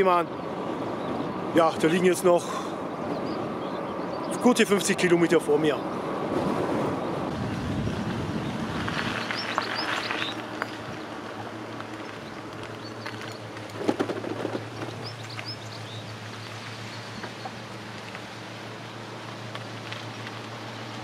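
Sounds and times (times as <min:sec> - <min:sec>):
birds chirping: 0:00.0 - 0:07.3, 0:08.3 - 0:17.8
bicycle low hum: 0:00.0 - 0:21.0.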